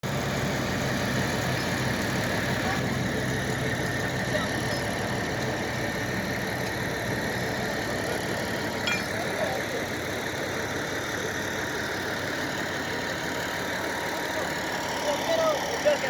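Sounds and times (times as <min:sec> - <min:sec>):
engine running with whine: 0:00.0 - 0:16.0.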